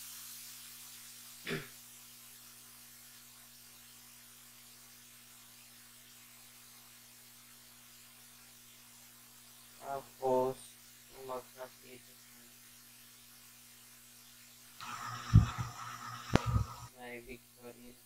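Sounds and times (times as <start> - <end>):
electrical mains hum with hiss: 0.0 - 18.0.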